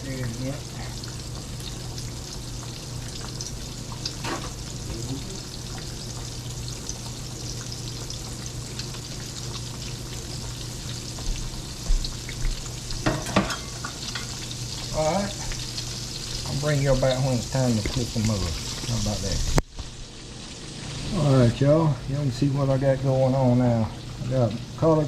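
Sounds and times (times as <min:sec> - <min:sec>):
steak sizzling in hot grease: 0:00.0 - 0:21.7.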